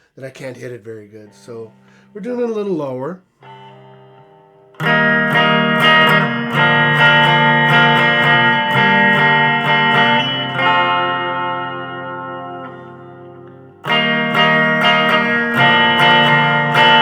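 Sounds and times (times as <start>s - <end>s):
guitar strumming chords: 0.4s - 17.0s.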